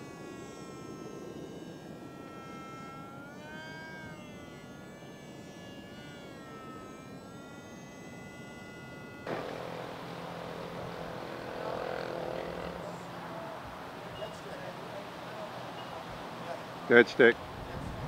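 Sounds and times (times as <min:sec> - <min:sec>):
model airplane motor whining: 0:00.0 - 0:18.0
model biplane engine drone: 0:00.0 - 0:18.0.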